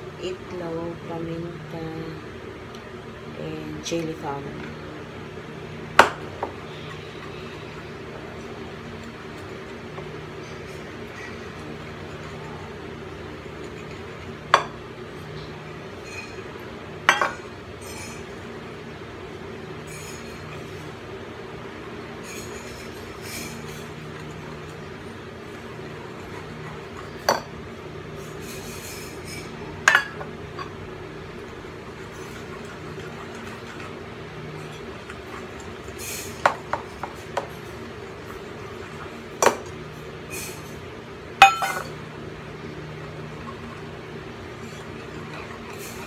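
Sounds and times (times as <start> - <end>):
steady background hum: 0.0 - 46.0.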